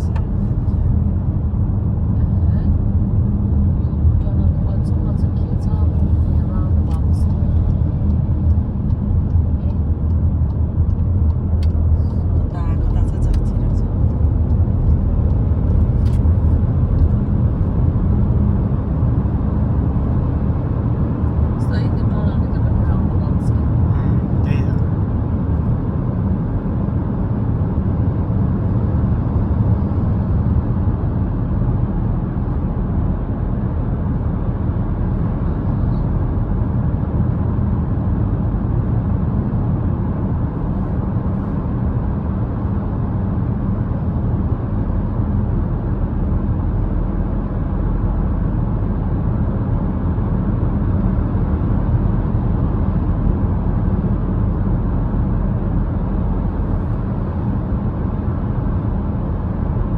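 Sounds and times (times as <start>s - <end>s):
vehicle driving rumble: 0.0s - 59.9s.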